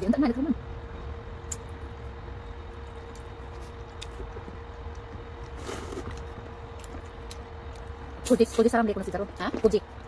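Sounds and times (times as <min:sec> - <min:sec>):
faint constant hum: 0:00.0 - 0:10.0
low background rumble: 0:00.0 - 0:10.0.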